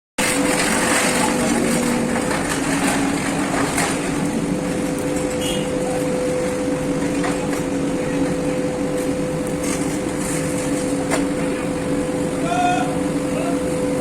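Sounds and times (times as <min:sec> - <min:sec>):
constant hum: 0:00.2 - 0:14.0
industrial machinery din: 0:00.2 - 0:14.0.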